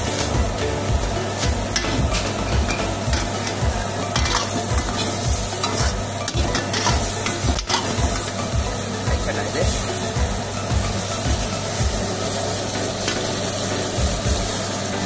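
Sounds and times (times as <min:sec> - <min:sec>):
gravy sizzling: 0:00.0 - 0:15.0
ladle scraping a wok: 0:00.1 - 0:14.0.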